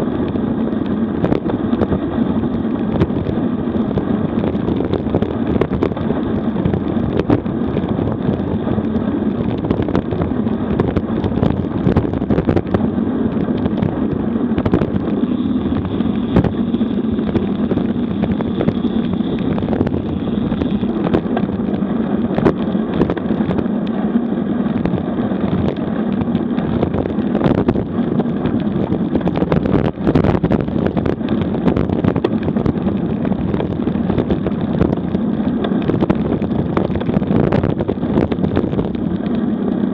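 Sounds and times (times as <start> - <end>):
tyres rumbling on rough asphalt: 0.0 - 39.9
wind rushing over microphone: 0.0 - 39.9.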